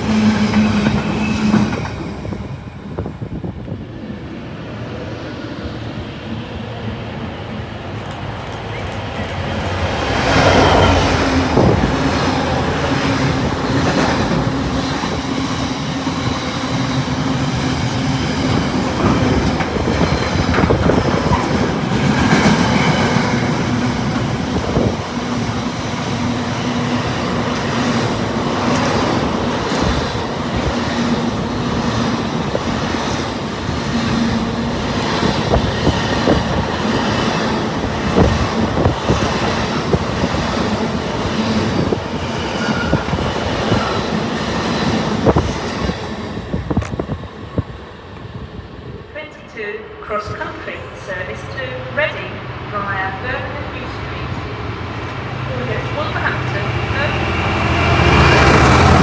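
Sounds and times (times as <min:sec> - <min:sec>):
low train hum: 0:00.0 - 0:59.0.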